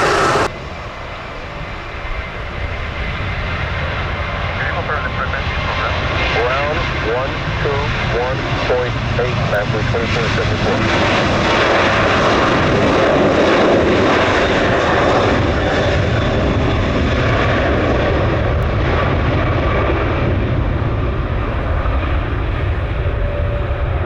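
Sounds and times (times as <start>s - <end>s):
jet airliner engines roaring: 0.0s - 24.0s.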